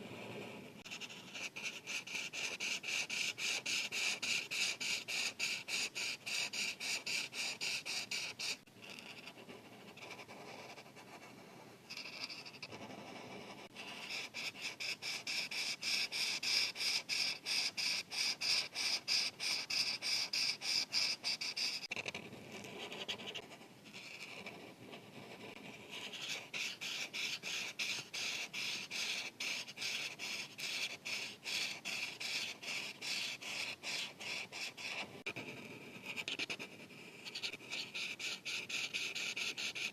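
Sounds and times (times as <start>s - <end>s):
marker rubbing on paper: 0.1s - 39.9s.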